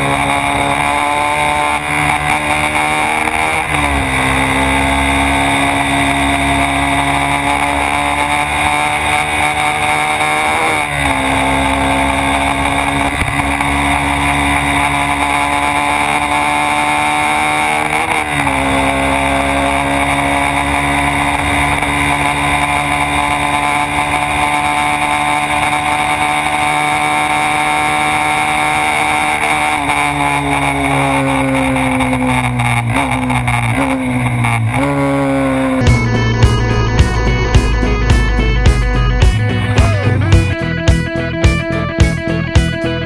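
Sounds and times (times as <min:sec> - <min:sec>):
motorcycle engine revving high: 0:00.0 - 0:41.4.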